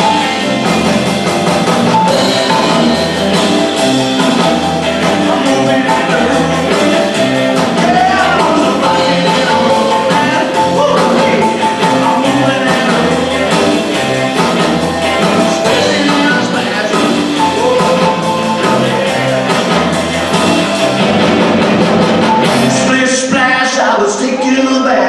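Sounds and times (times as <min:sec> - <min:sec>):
bass guitar: 0:00.0 - 0:23.6
drum kit beat: 0:00.0 - 0:23.6
electric guitar: 0:00.0 - 0:25.0
piano: 0:00.0 - 0:25.0.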